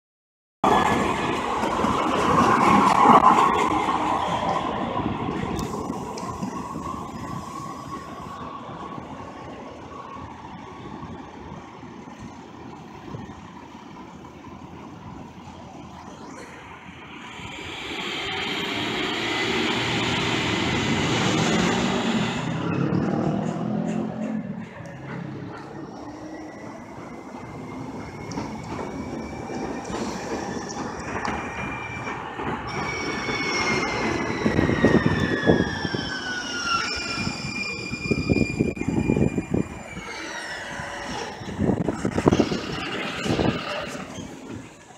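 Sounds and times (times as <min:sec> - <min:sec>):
light rail train moving off: 0:00.7 - 0:44.9
street traffic rumble: 0:00.7 - 0:44.9.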